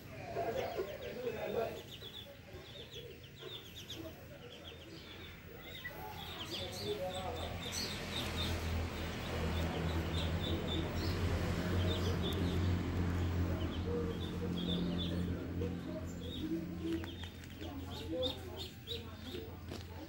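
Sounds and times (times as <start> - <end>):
ducklings peeping: 0.2 - 20.0.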